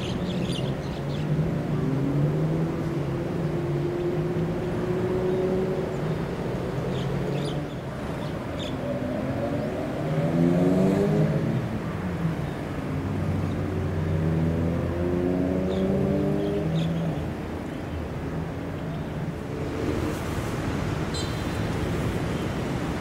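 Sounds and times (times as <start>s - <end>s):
engines accelerating: 0.0s - 23.0s
engines humming: 0.0s - 23.0s.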